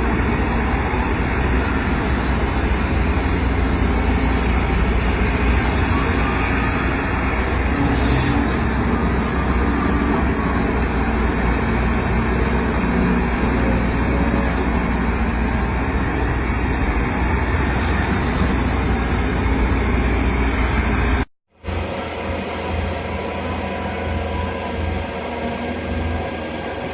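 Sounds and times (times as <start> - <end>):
diesel engine rumbling: 0.0 - 26.9.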